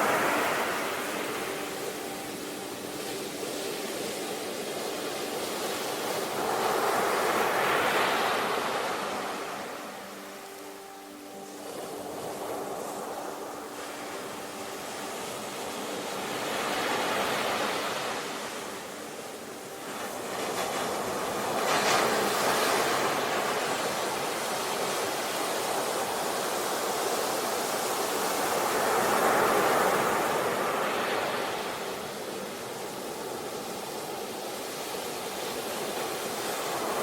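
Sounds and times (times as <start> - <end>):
sea waves washing in: 0.0 - 37.0.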